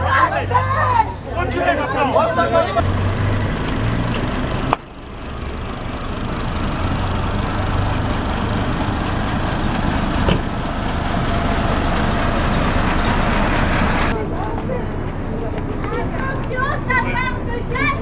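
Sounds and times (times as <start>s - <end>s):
coach engines droning: 0.0s - 18.0s
street noise: 0.0s - 18.0s.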